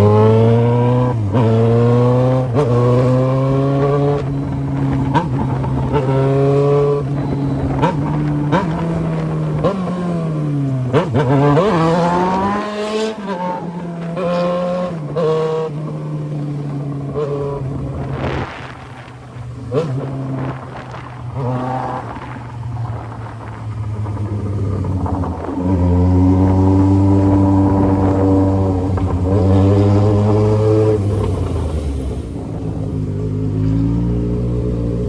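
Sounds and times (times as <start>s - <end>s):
engine accelerating through gears: 0.0s - 35.0s.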